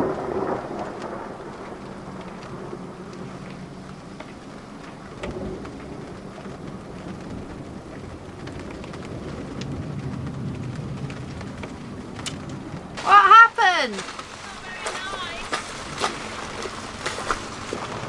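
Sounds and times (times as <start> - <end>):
rain drops ticking: 0.0 - 18.0
thunder rumbling: 0.0 - 18.0.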